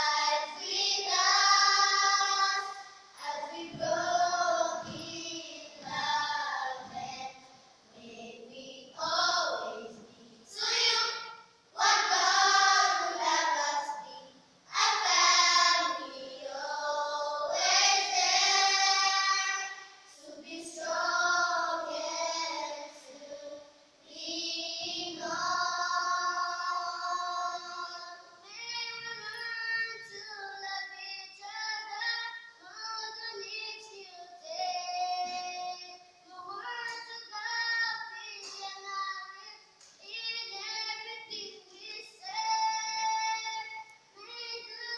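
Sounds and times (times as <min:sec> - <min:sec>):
girls singing together: 0:00.0 - 0:44.9.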